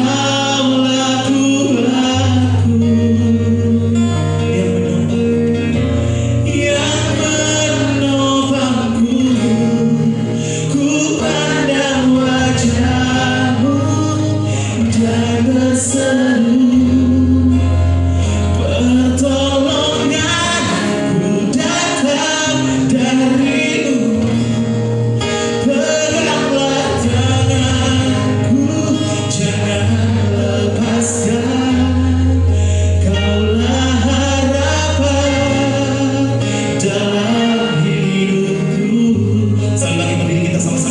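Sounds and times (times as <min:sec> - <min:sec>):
instrumental accompaniment: 0:00.0 - 0:40.9
person singing worship song: 0:00.0 - 0:40.9.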